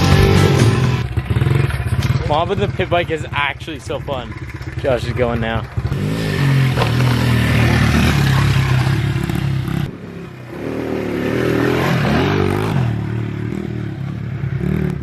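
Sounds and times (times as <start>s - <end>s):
small motorbike engine revving: 0.0s - 2.9s, 4.3s - 15.0s.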